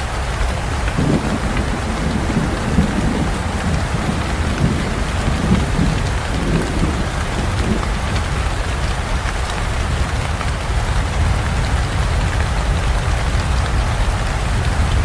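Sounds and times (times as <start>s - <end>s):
steady rain falling: 0.0s - 15.0s
thunder rumbling: 0.4s - 15.0s.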